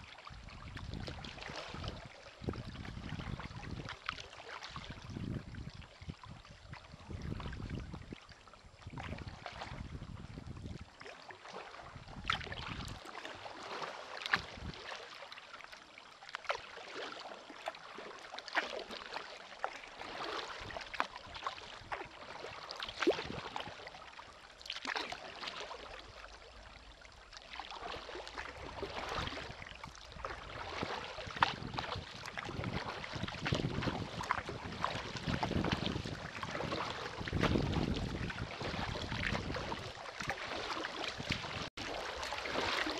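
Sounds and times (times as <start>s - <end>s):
paddle splashing in water: 0.0s - 42.9s.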